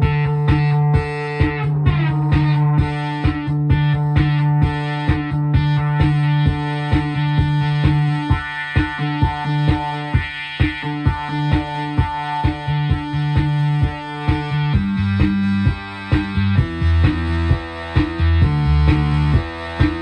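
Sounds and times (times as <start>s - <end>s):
buzzy synthesizer note: 0.0s - 20.0s
sharp percussive clicks: 0.1s - 20.0s.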